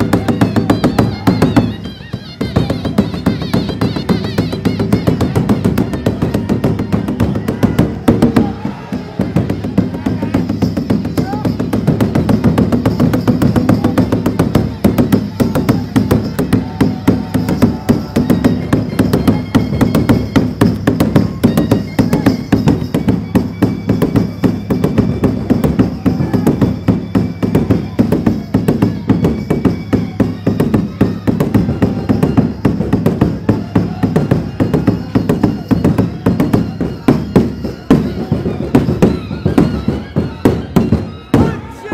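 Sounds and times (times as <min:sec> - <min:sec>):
rapid drum beats: 0:00.0 - 0:41.9.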